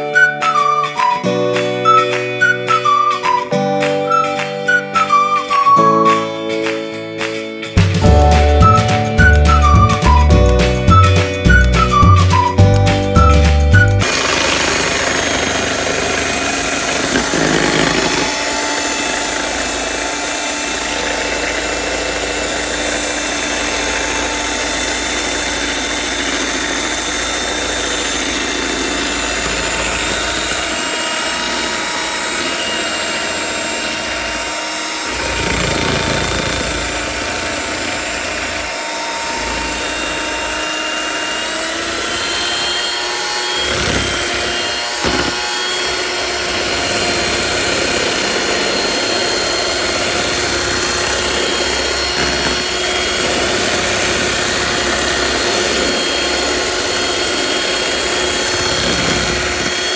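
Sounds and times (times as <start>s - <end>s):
electric hand mixer whining: 0.0s - 6.6s, 7.8s - 59.9s
beaters whisking batter: 10.3s - 59.9s.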